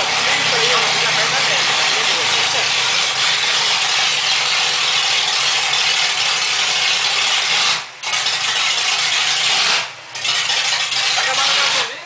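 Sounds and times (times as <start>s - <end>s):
car engine running loudly: 0.0s - 12.0s.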